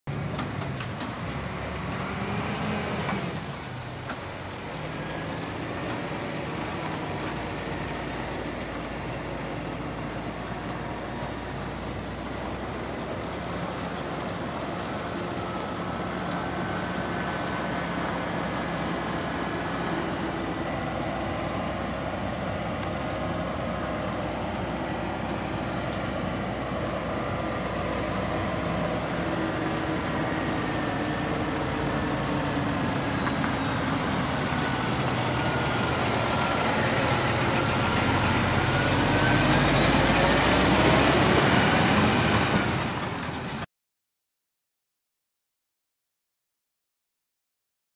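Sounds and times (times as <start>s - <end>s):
diesel truck engine driving: 0.1s - 43.7s.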